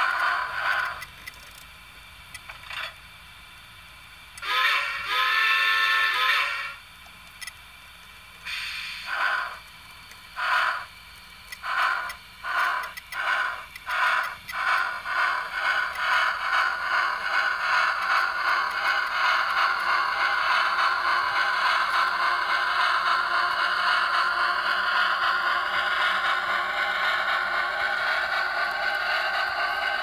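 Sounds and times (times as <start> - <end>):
sampled steam exhaust chuffs: 0.0 - 2.4, 3.1 - 7.0, 7.6 - 30.0.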